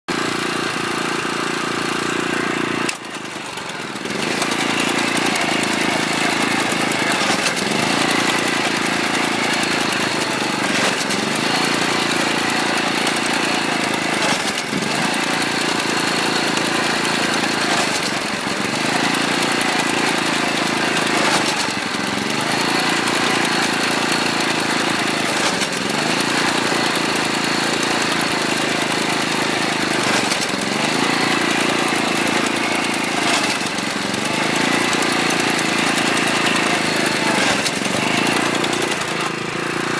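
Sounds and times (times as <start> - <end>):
small engine running: 0.1 - 39.9.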